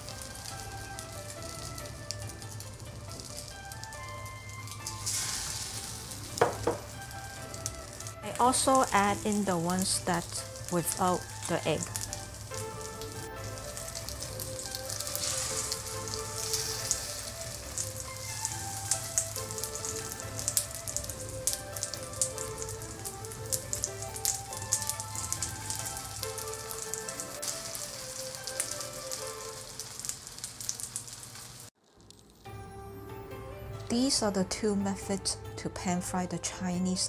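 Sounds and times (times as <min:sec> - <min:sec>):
food sizzling in hot oil: 0:00.0 - 0:32.6
soft background music: 0:00.0 - 0:37.0.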